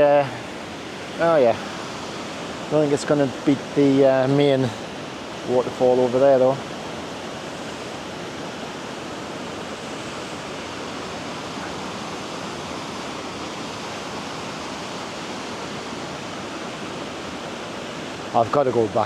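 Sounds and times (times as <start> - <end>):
waterfall roar: 0.0 - 19.0.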